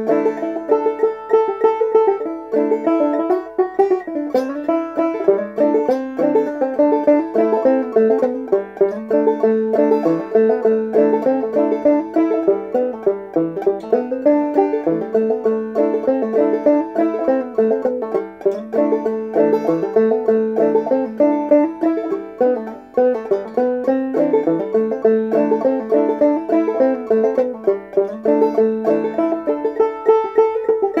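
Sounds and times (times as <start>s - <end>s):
banjo playing fiddle tune: 0.0s - 31.0s.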